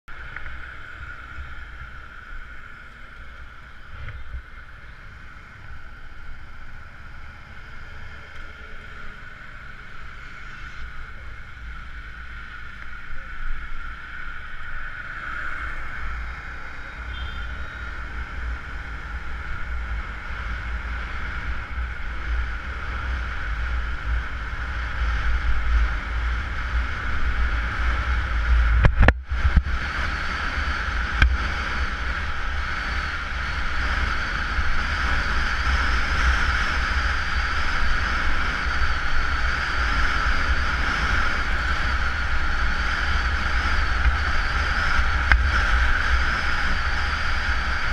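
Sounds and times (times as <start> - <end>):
motorcycle riding: 0.0 - 47.9.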